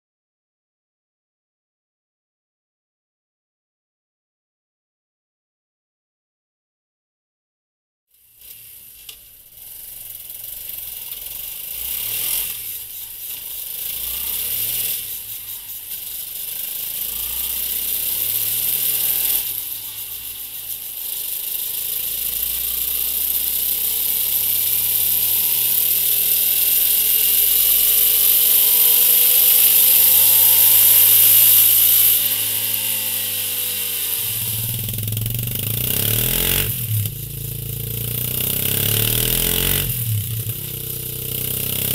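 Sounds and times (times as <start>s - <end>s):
motorcycle engine revving: 8.2s - 41.9s.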